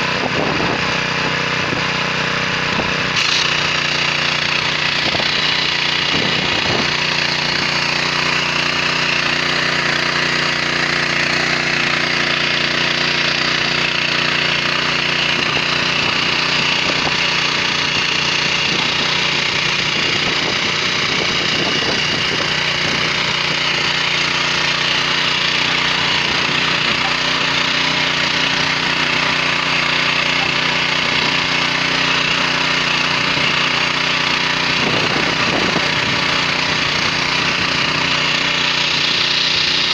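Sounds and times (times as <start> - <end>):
tiller cutters rattling clatter: 0.0 - 39.9
tractor engine drone: 0.0 - 39.9.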